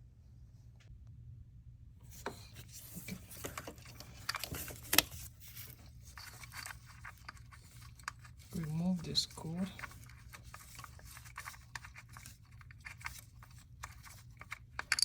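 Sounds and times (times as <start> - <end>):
tools rubbing and scraping: 2.1 - 15.0.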